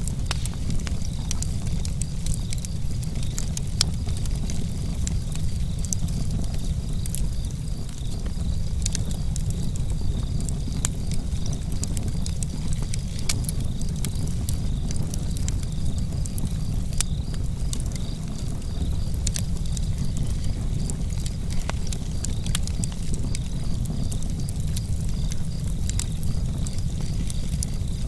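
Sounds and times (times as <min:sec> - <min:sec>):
campfire crackling: 0:00.0 - 0:28.0
crickets chirping: 0:00.0 - 0:28.0.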